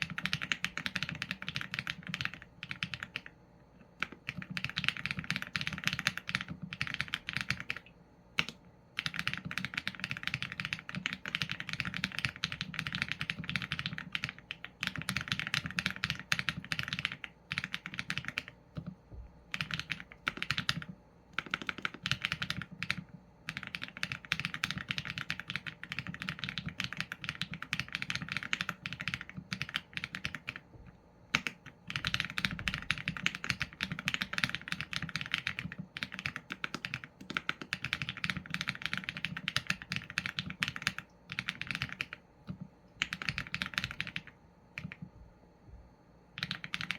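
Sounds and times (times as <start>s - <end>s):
mechanical keyboard typing: 0.0s - 30.7s, 31.3s - 45.1s, 46.4s - 46.9s.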